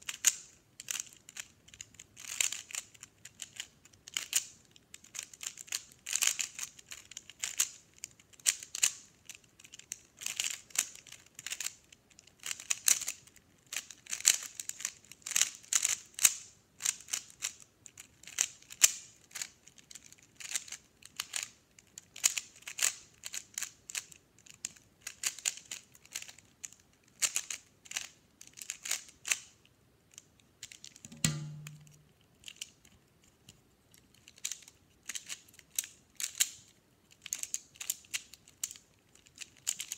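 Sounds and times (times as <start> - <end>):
puzzle cube clicking: 0.1 - 39.9.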